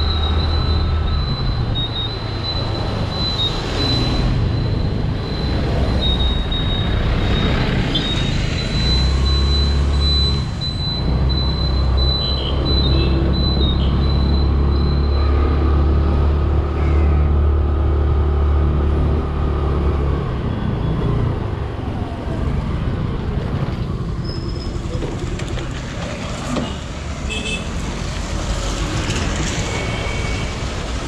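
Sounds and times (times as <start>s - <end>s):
street traffic: 0.0s - 31.0s.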